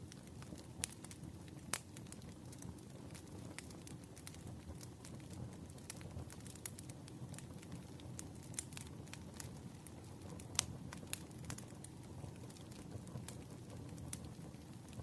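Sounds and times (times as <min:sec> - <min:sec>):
burning logs rumbling: 0:00.0 - 0:15.0
campfire pops and snaps: 0:00.1 - 0:15.0.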